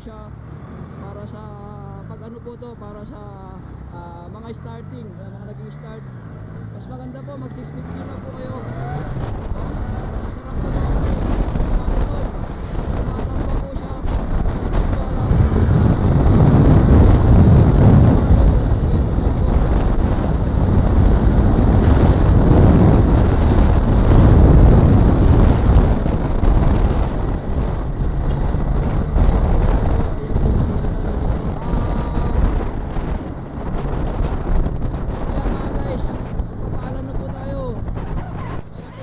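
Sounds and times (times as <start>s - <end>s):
motorcycle running: 0.0s - 39.0s
wind rushing over microphone: 5.5s - 39.0s.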